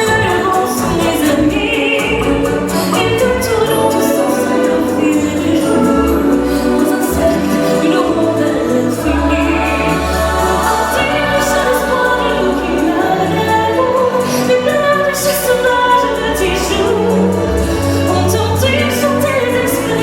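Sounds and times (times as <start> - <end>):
choir singing show music: 0.0 - 20.0
orchestral backing with bass: 0.0 - 20.0.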